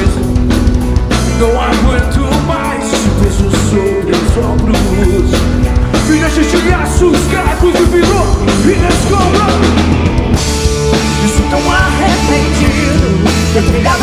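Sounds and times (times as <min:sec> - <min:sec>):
drum kit beat: 0:00.0 - 0:14.0
rock band playing live: 0:00.0 - 0:14.0.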